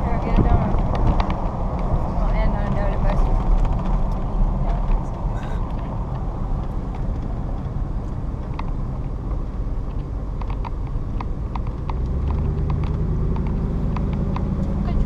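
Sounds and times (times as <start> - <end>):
truck road and engine rumble: 0.0 - 15.0.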